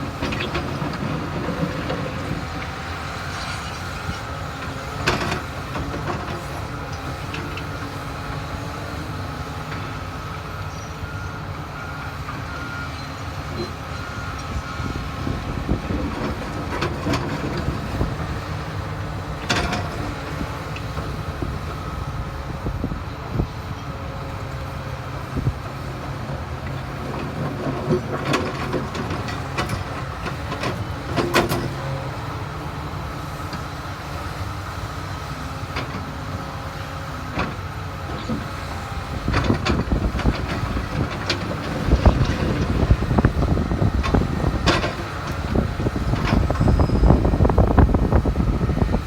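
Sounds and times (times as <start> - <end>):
diesel excavator engine running: 0.0 - 49.0.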